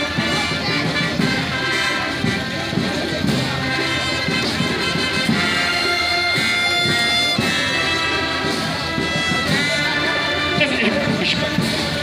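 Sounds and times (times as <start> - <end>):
military band brass long notes: 0.0 - 12.0.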